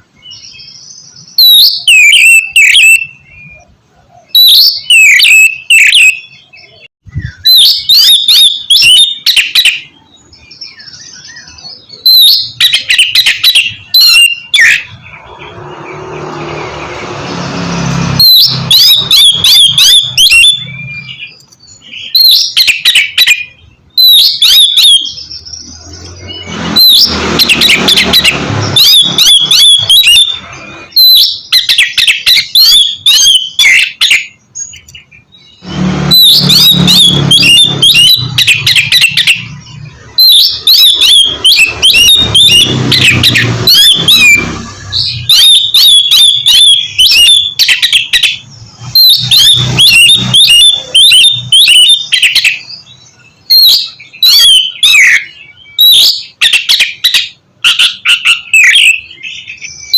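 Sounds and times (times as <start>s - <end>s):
bird singing whistles and chirps: 0.0s - 59.9s.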